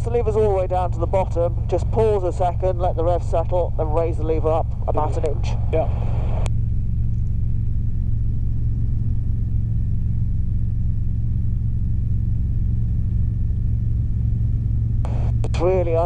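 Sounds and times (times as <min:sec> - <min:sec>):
helicopter engine and rotors drone: 0:00.0 - 0:16.0.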